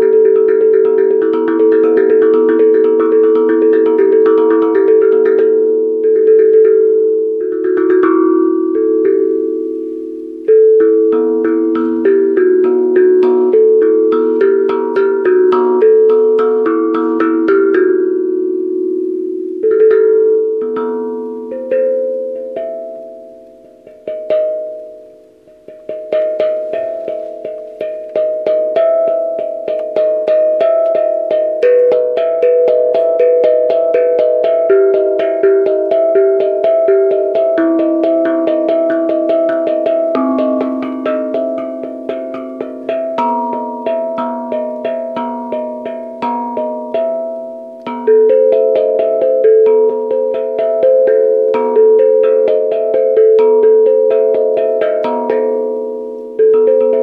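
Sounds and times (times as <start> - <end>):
tuned percussion notes: 0.0 - 57.0.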